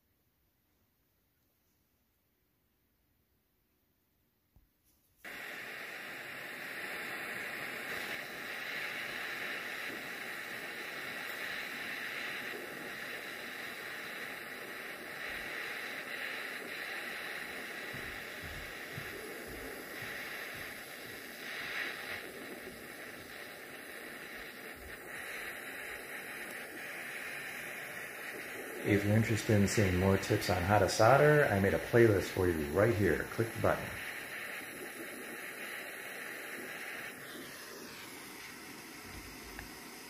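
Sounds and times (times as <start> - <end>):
torch flame hissing: 5.2 - 40.0.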